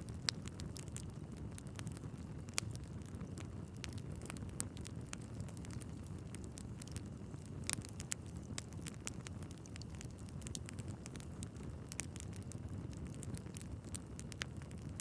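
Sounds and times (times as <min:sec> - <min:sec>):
fire crackling and popping: 0:00.0 - 0:15.0
flames rumbling: 0:00.0 - 0:15.0.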